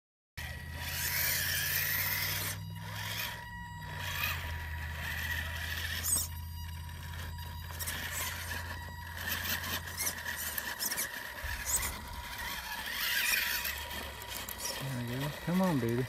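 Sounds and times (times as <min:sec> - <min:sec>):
electric motor whining: 0:00.4 - 0:16.0
tyres scraping on rock: 0:00.8 - 0:16.0.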